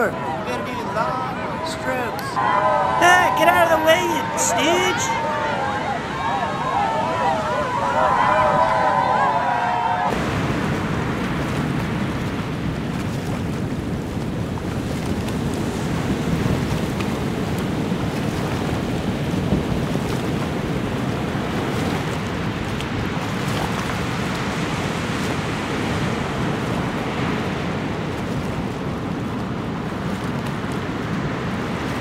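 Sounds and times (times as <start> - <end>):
waves breaking: 0.0 - 32.0
wind: 0.0 - 32.0.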